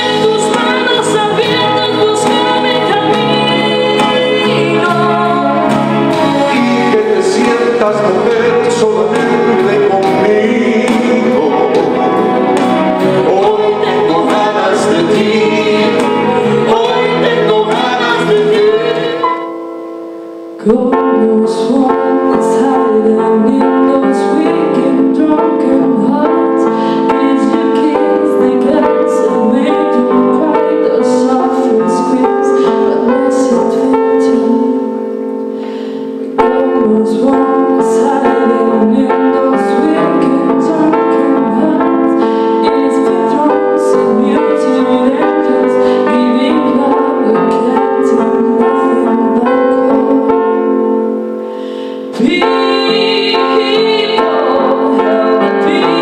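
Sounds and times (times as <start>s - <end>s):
woman singing: 0.0s - 7.9s, 9.2s - 19.5s, 20.6s - 35.0s, 36.4s - 50.7s, 51.7s - 56.0s
electronic keyboard piano: 0.0s - 56.0s.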